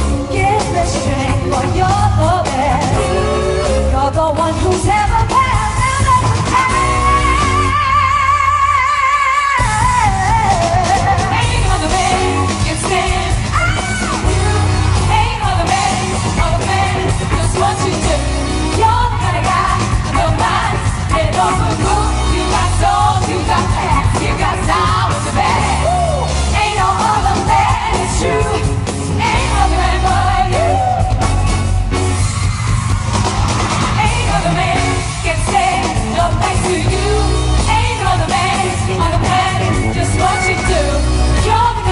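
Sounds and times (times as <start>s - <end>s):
women singing: 0.0s - 31.2s, 34.0s - 41.9s
pop backing track with bass beat: 0.0s - 41.9s.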